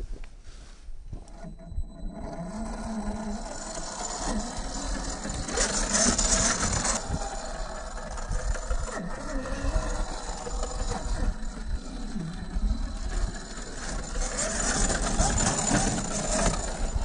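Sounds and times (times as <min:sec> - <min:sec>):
electric motor whining: 0:01.1 - 0:17.0.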